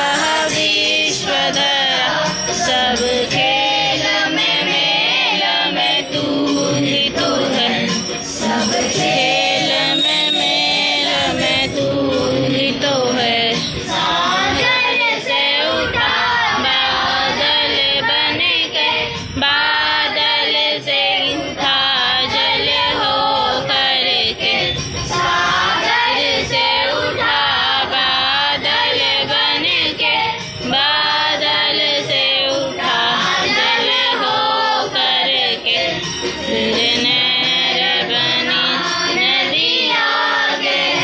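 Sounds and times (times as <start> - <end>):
young voices singing in chorus: 0.0 - 41.0.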